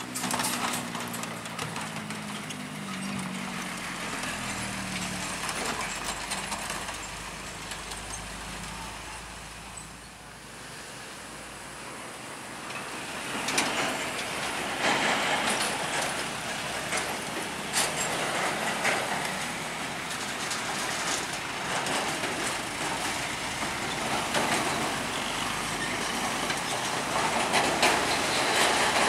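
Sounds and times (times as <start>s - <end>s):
wheels knocking over tracks: 0.0s - 8.9s, 12.6s - 29.0s
tyres rolling over rails: 0.0s - 10.4s, 11.2s - 29.0s
diesel truck engines running: 0.0s - 29.0s.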